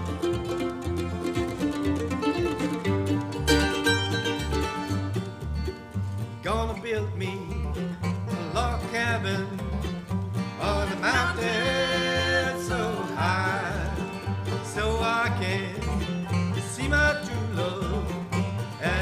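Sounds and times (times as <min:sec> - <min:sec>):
bluegrass band playing: 0:00.0 - 0:19.0.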